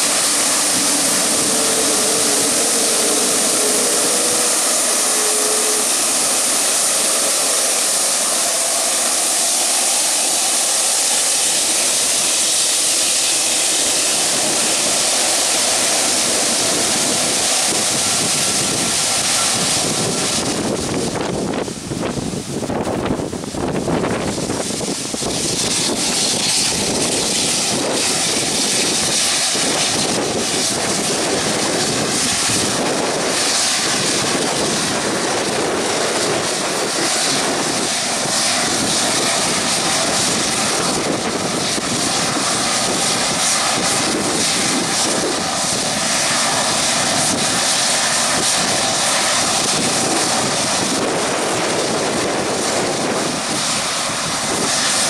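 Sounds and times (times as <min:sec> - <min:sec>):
jet engines hissing: 0:00.0 - 0:55.0.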